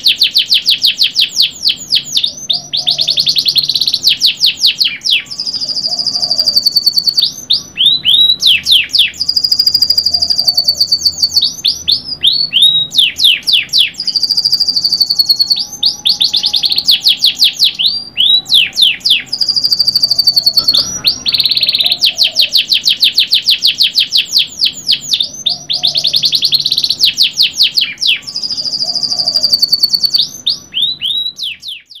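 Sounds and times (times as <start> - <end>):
canary singing rapid trills: 0.0 - 32.0.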